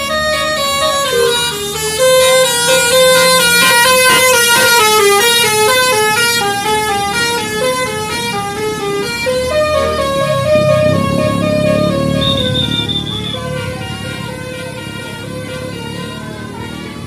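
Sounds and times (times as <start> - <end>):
musical bus horn melody: 0.0 - 17.0.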